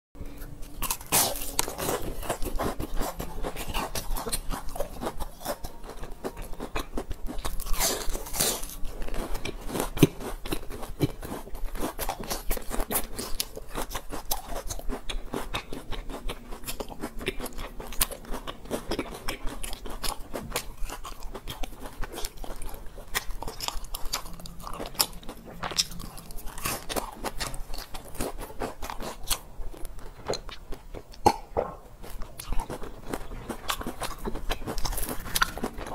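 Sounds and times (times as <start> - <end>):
crunchy food being chewed: 0.2 - 35.9.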